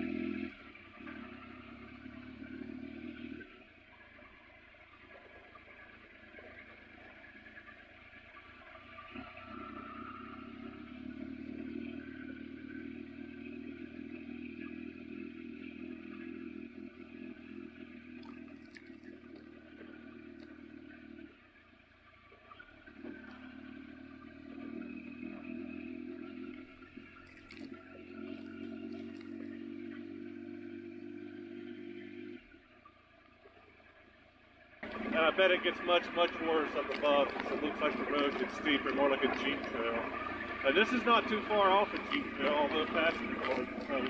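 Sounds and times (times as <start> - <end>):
motorcycle engine at low revs: 0.0 - 44.0.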